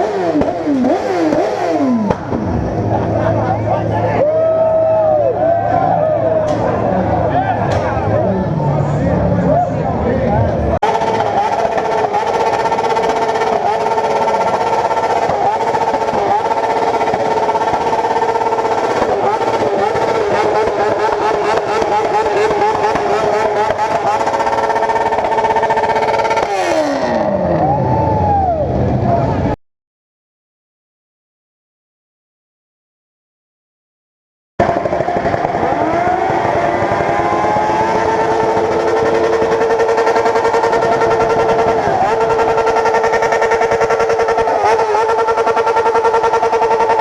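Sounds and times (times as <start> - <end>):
motorcycle engines revving: 0.0 - 29.6, 34.6 - 47.0.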